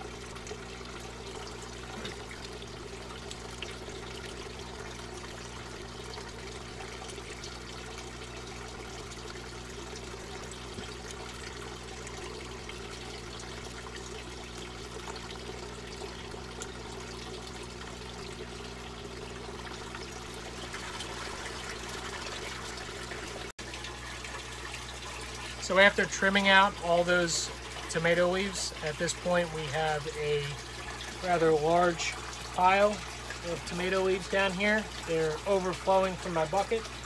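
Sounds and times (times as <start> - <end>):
low steady hum: 0.0 - 37.0
water trickling: 0.0 - 37.0.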